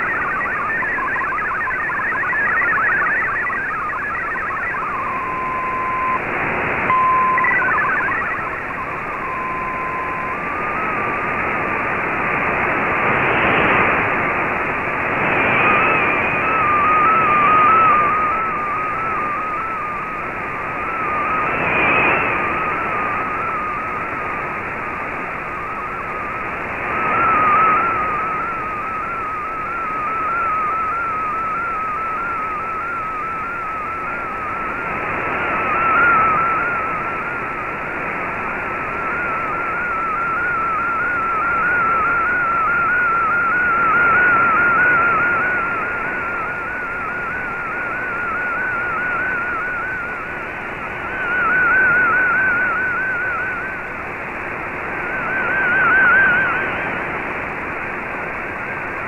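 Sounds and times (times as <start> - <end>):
radio band hiss: 0.0 - 59.0
warbling radio tone: 0.0 - 59.0.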